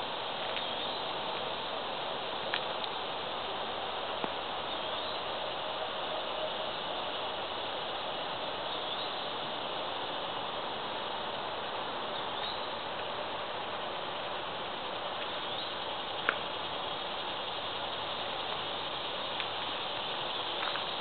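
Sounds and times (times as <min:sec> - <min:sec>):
woodland background hiss: 0:00.0 - 0:21.0.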